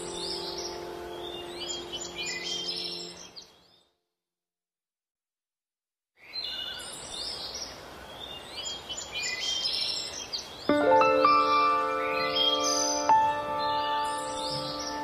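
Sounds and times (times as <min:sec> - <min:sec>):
birds chirping: 0:00.0 - 0:03.9, 0:06.2 - 0:15.0.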